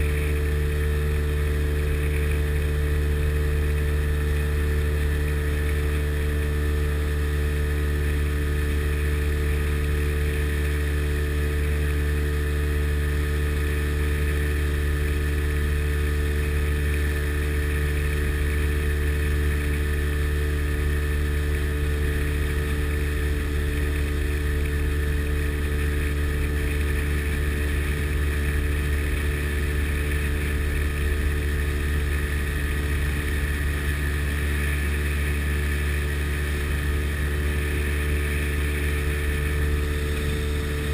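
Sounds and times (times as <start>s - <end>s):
boat engine running steadily: 0.0s - 40.9s.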